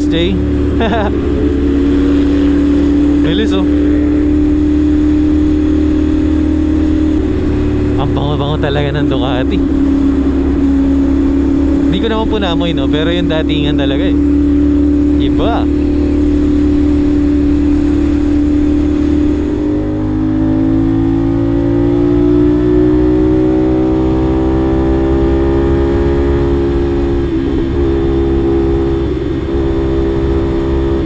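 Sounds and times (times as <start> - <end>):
low wind rush: 0.0 - 31.0
motorcycle engine running: 0.0 - 31.0.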